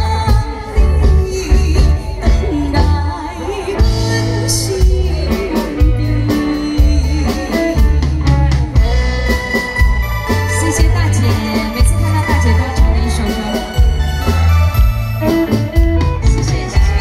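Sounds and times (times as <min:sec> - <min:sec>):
bass: 0:00.0 - 0:17.0.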